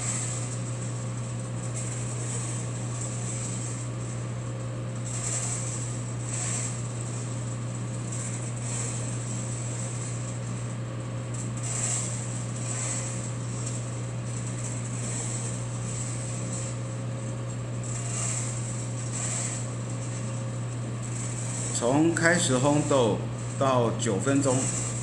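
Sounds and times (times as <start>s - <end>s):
coffee roaster fan hum: 0.0s - 25.0s.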